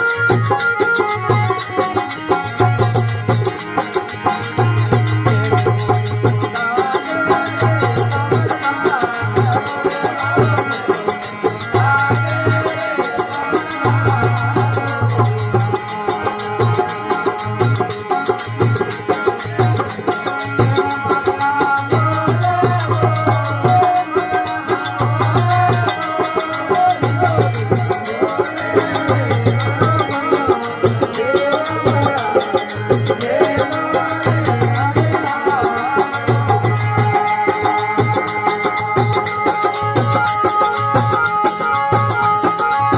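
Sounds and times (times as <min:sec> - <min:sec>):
folk devotional song: 0:00.0 - 0:42.9
steady percussion beat: 0:00.0 - 0:42.9.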